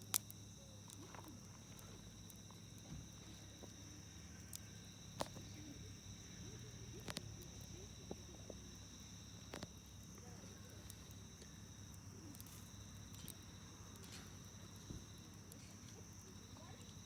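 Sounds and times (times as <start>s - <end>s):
campfire crackling and popping: 0.0s - 17.0s
insects chirring: 0.0s - 17.0s.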